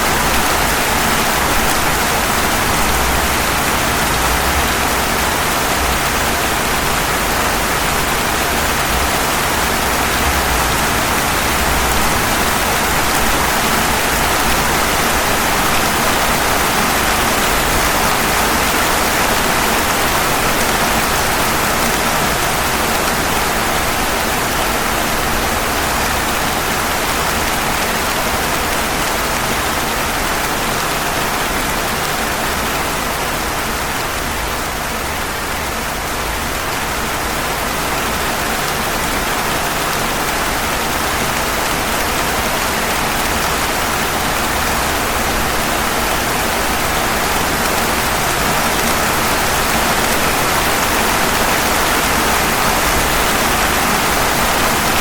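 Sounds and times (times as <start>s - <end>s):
rain on pavement: 0.0s - 55.0s.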